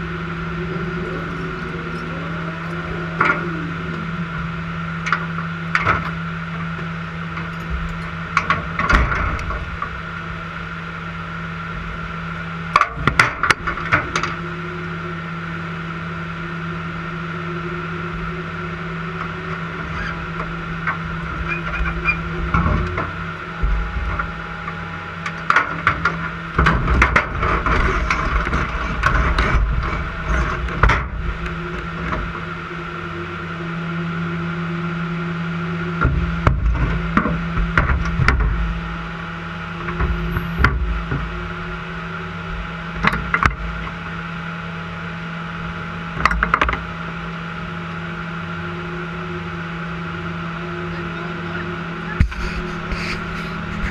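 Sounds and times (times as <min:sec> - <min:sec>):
engine hum: 0:00.0 - 0:53.9.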